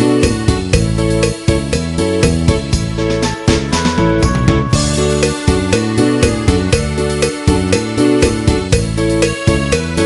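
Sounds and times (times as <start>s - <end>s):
upbeat electric piano music: 0.0s - 10.0s.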